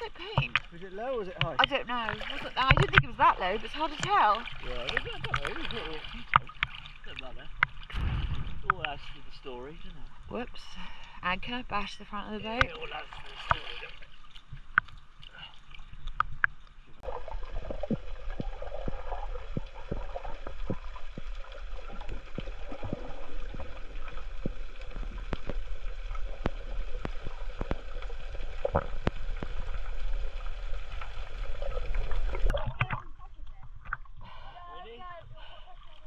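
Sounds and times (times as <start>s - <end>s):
water splashing and gurgling: 0.0s - 36.0s.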